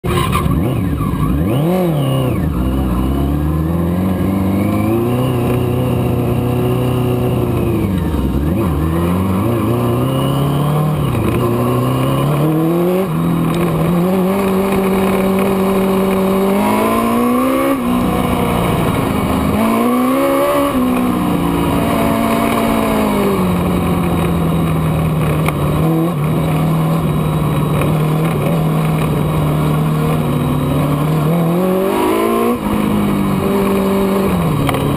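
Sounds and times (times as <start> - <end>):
race car engine accelerating: 0.1 - 34.9.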